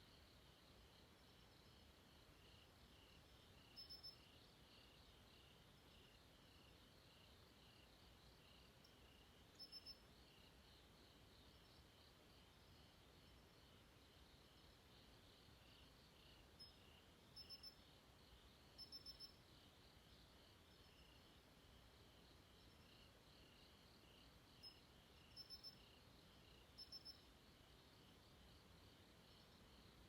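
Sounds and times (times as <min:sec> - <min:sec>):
insect chirps: 0:00.0 - 0:30.0.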